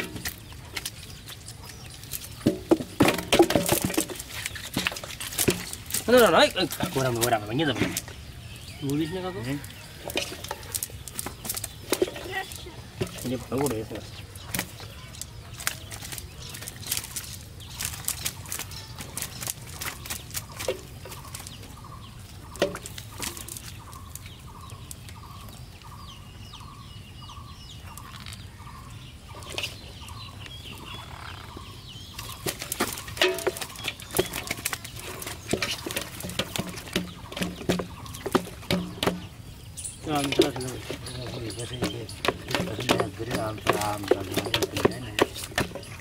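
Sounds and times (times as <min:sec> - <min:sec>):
cast net rustling and clicking: 0:00.0 - 0:08.2, 0:08.8 - 0:25.9, 0:29.4 - 0:46.0
bird calling: 0:00.0 - 0:46.0.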